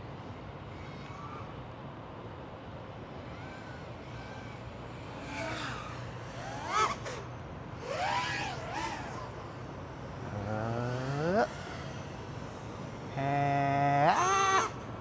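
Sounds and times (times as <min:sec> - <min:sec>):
drone propellers whining: 0:00.0 - 0:15.0
steady low hum: 0:00.0 - 0:15.0.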